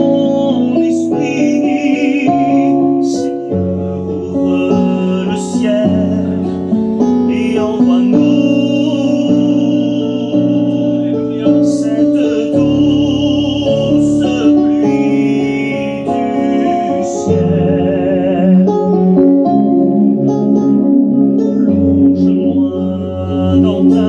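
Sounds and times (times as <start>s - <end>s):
keyboard: 0.0s - 24.0s
person singing a hymn: 0.0s - 24.0s.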